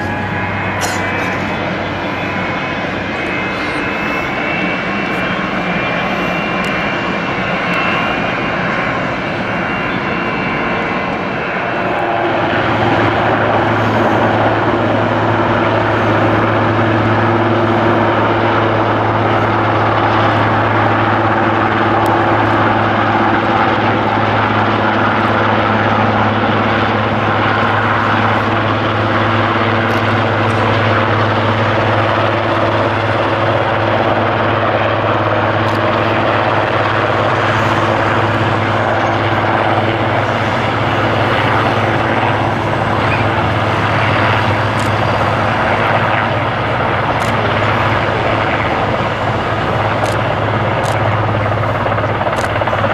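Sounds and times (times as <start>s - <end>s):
distant jet engine whine: 0.0s - 52.9s
helicopter hovering: 0.0s - 52.9s.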